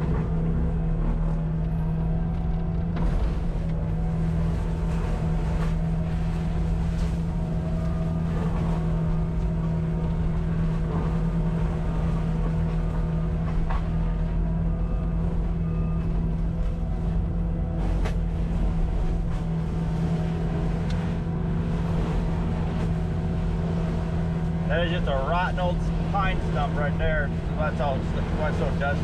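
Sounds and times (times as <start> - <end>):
engine and mulcher droning: 0.0 - 29.0.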